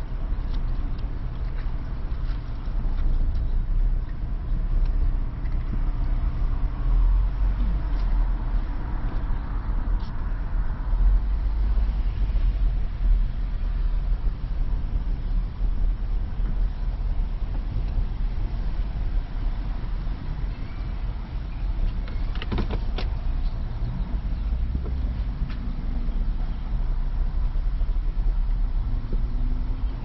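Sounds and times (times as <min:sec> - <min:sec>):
car engine rumbling inside cabin: 0:00.0 - 0:30.0.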